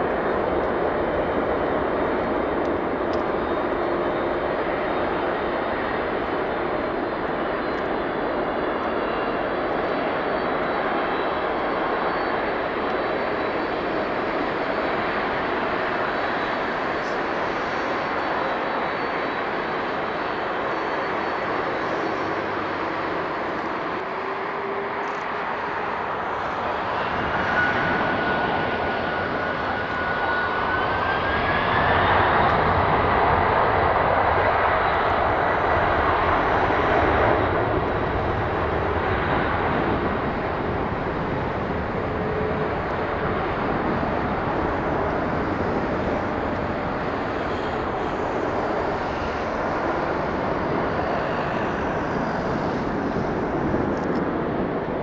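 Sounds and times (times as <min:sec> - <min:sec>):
jet engine whine: 0:00.0 - 0:55.0
jet engines roaring: 0:00.0 - 0:55.0.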